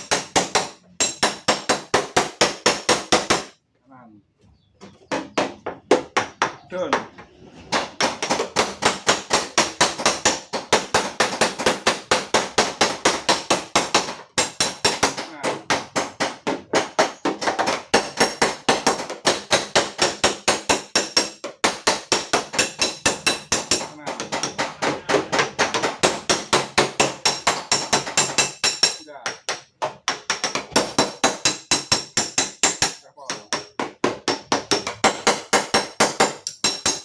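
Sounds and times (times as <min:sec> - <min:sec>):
hammer strikes on sheet metal: 0:00.0 - 0:03.6, 0:05.1 - 0:37.0.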